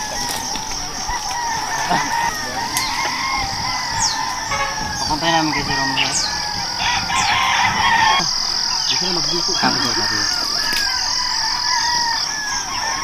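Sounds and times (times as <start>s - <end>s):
frogs croaking: 0.0s - 13.0s
insect drone: 0.0s - 13.0s.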